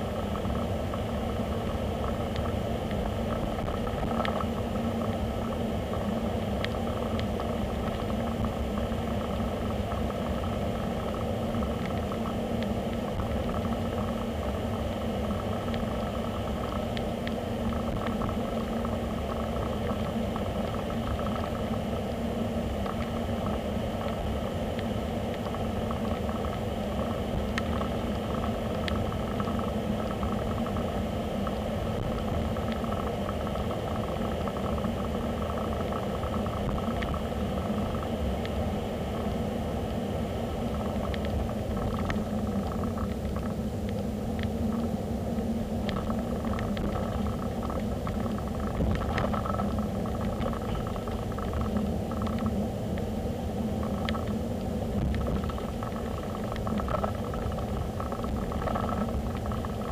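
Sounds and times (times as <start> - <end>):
faint ticks: 0.3 - 22.2, 22.8 - 38.6, 40.6 - 53.2, 53.8 - 59.9.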